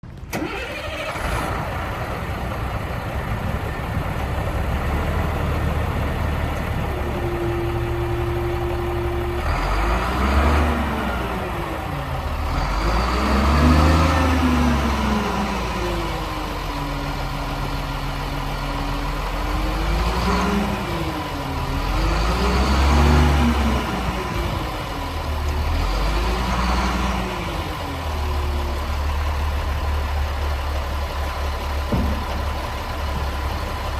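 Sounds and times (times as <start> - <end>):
diesel truck engine revving: 0.1 - 33.9.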